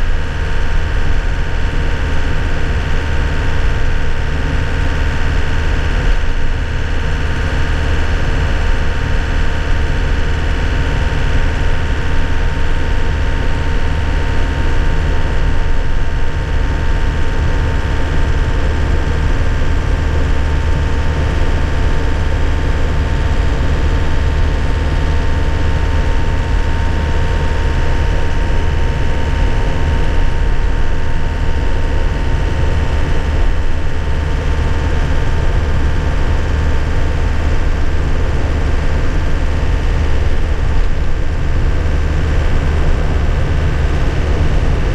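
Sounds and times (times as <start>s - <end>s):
truck engine drone: 0.0s - 44.9s.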